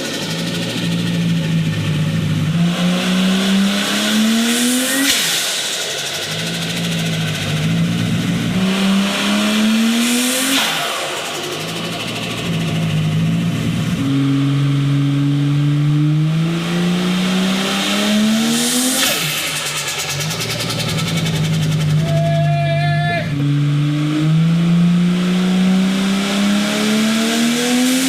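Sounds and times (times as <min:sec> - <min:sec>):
car engine idling: 0:00.0 - 0:26.2
car engine revving: 0:00.0 - 0:28.0.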